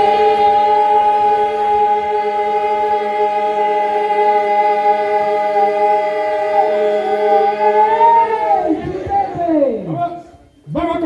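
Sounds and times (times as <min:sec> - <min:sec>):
choir holding a sung chord: 0:00.0 - 0:09.2.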